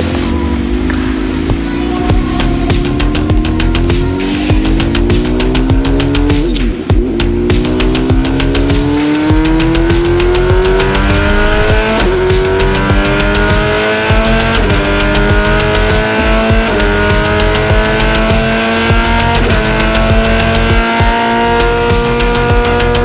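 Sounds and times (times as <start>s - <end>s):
music with steady beat: 0.0s - 23.0s
vehicle engine climbing in pitch: 0.0s - 23.0s.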